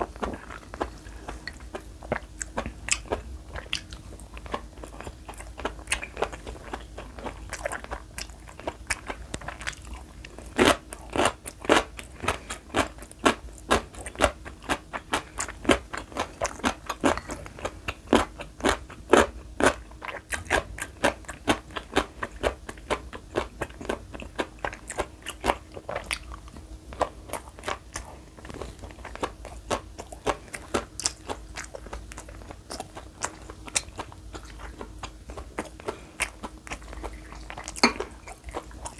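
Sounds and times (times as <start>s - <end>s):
chewing food: 0.0s - 38.9s.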